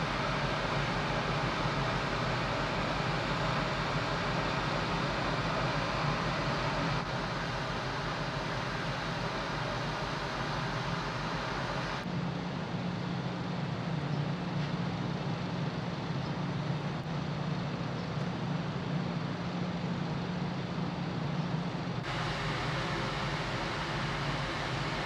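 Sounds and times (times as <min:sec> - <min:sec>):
ship machinery drone: 0:00.0 - 0:25.0.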